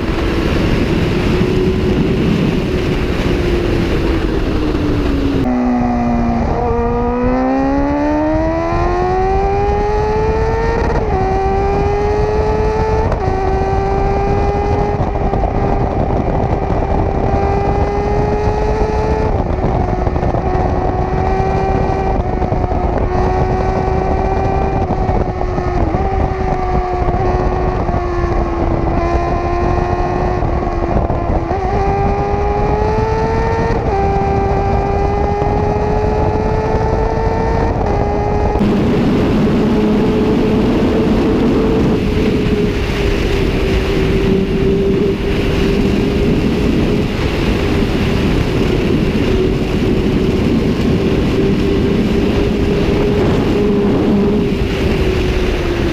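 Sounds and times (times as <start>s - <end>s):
motorcycle engine revving: 0.0s - 55.9s
wind rush on microphone: 0.0s - 55.9s.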